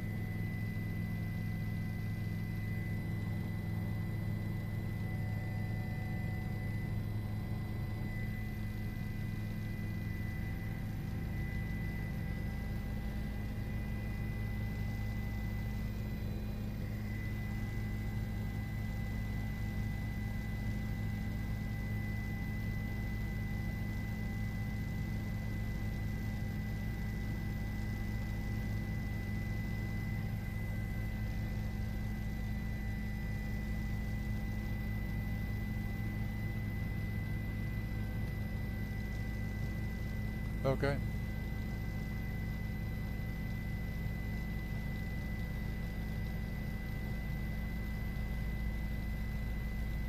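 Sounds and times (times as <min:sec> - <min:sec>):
constant high whine: 0:00.0 - 0:50.0
helicopter cabin drone: 0:00.0 - 0:50.0.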